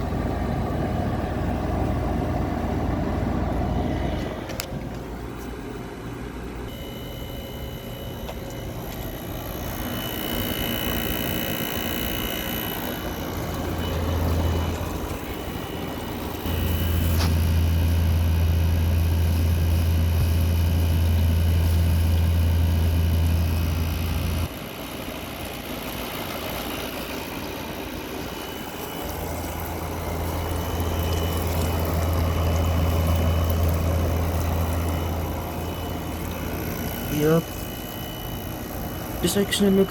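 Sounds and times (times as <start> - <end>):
air conditioner humming: 0.0 - 39.9
loud low hum: 0.0 - 39.9.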